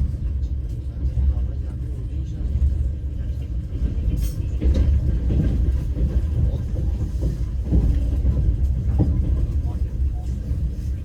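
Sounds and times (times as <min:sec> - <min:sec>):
train carriage rumbling: 0:00.0 - 0:11.0.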